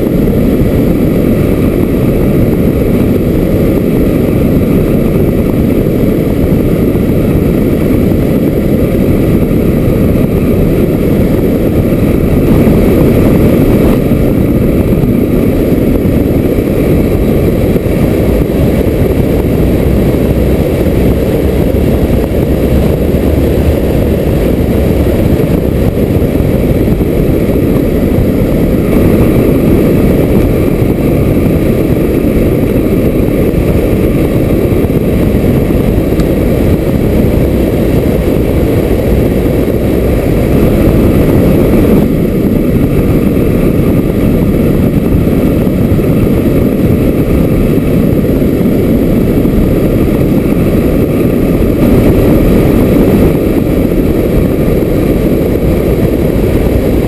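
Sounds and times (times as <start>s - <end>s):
wind buffeting a camera: 0.0s - 57.0s.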